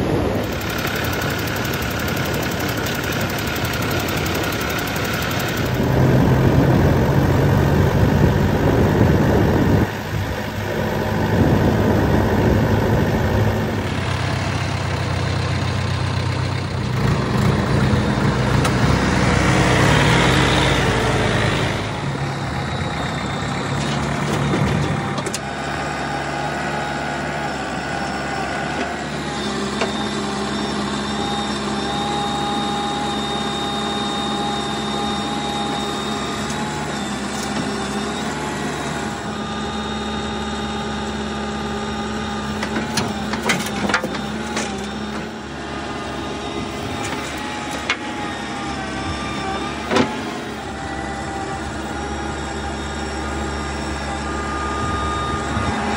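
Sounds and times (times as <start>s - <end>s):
diesel engine of backhoe loader: 0.0s - 55.9s.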